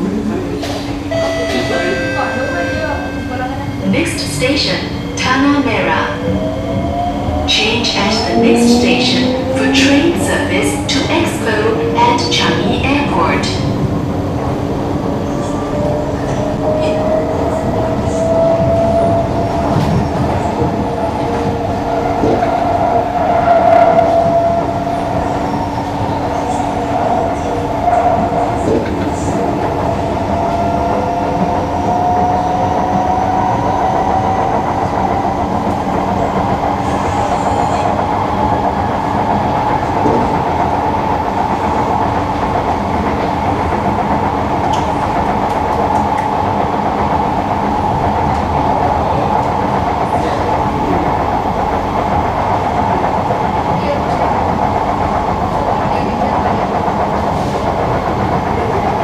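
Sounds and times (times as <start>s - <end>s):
wheels rumbling on rails: 0.0s - 59.0s.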